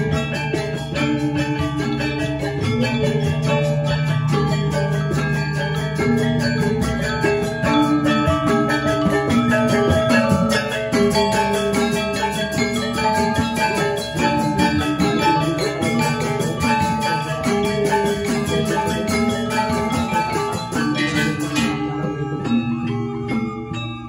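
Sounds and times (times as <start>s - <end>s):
gamelan ensemble playing: 0.0s - 24.0s.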